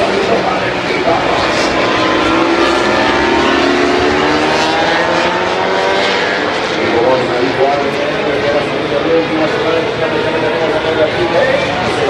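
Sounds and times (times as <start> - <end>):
racing motorcycles revving: 0.0 - 12.0.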